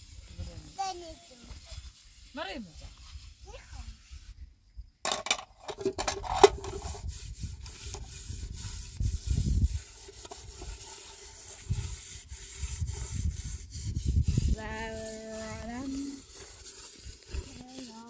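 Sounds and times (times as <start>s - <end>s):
scraping and rubbing: 0.0s - 4.4s, 5.1s - 18.0s.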